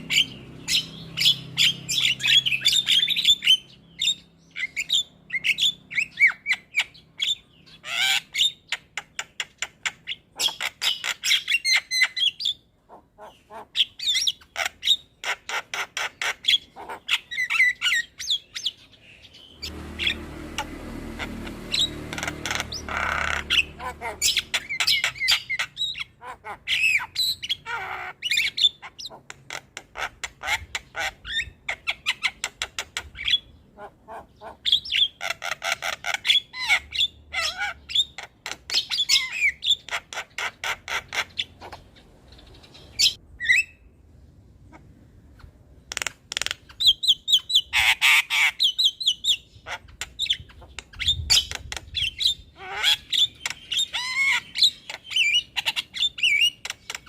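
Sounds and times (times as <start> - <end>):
bird chattering and squawking: 0.0 - 44.0, 44.6 - 57.0.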